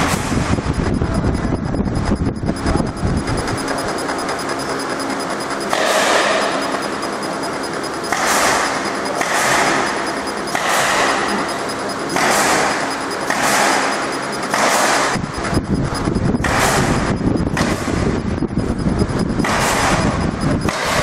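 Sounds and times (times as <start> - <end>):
laser engraver hiss and hum: 0.0 - 21.0.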